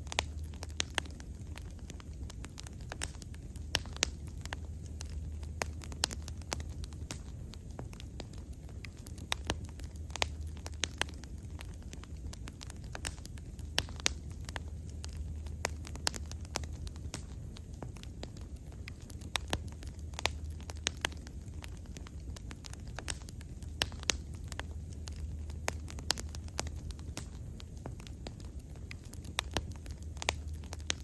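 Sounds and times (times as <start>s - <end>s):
bonfire crackling: 0.0s - 31.0s
low rumble of flames: 0.0s - 31.0s.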